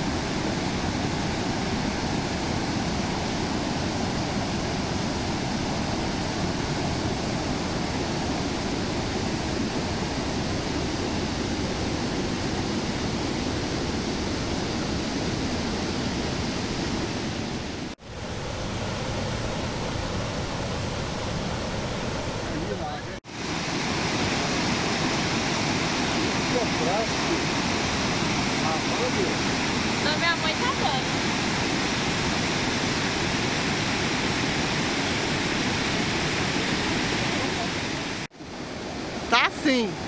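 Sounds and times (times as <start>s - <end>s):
rushing water roar: 0.0s - 40.0s.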